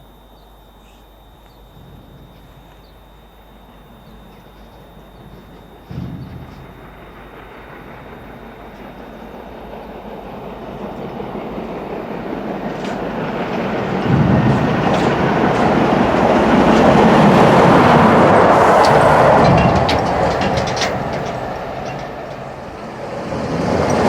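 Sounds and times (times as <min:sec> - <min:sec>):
steam locomotive rumbling past: 0:00.8 - 0:24.0
wheel clatter on rails: 0:01.4 - 0:24.0.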